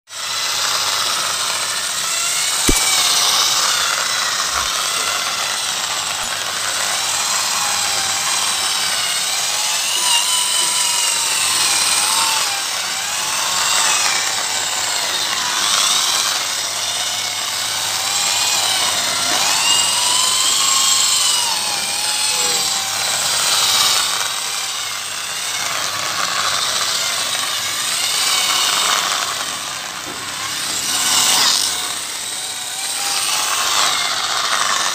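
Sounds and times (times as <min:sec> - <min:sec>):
electric drill motor whine: 0:00.1 - 0:34.9.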